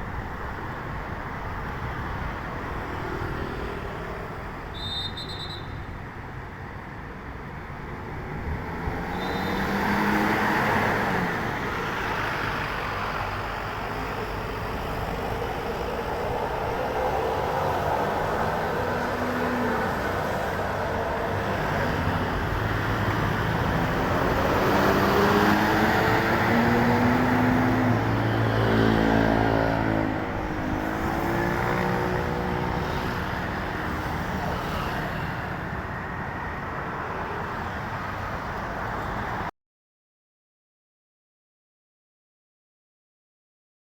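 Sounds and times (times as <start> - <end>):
heavy vehicle engines: 0.0 - 39.5
road traffic passing: 0.0 - 39.5.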